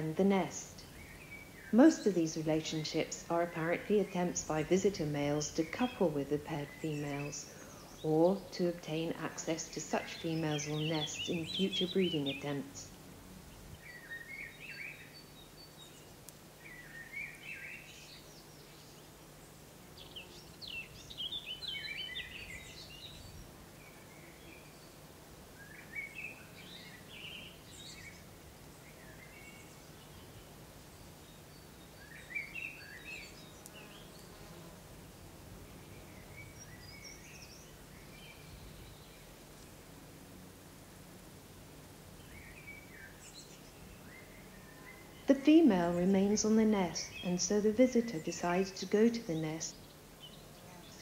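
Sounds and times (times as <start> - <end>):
faint low hum: 0.0 - 51.0
songbirds chirping: 0.0 - 51.0.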